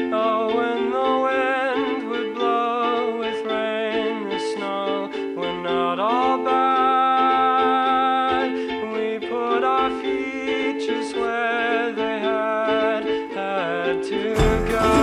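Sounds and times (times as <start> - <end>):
plucked strings melody: 0.0 - 15.0.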